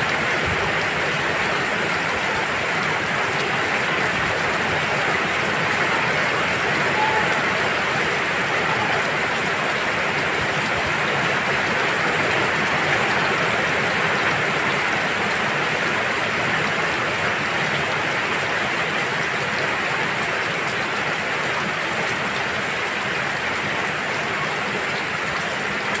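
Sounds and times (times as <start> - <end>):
rain falling on pond water: 0.0 - 26.0.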